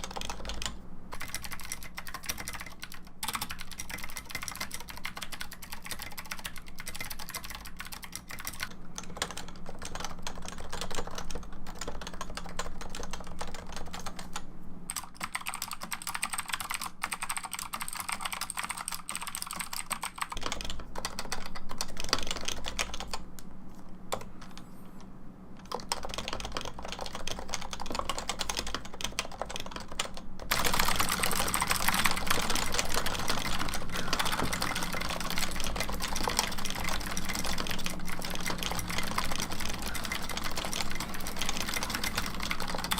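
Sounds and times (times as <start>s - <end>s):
keyboard typing clicks: 0.0s - 23.5s, 25.6s - 42.9s.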